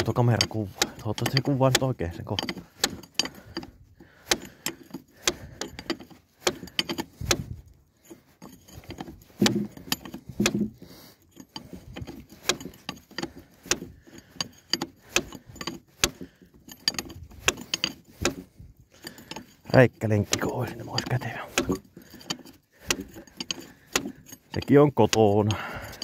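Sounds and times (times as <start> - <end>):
metal hand tools clinking: 0.0 - 7.3, 8.0 - 26.0.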